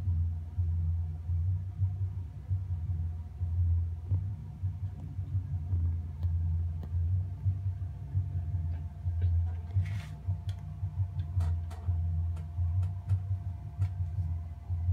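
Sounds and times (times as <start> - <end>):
low throbbing hum: 0.0 - 14.9.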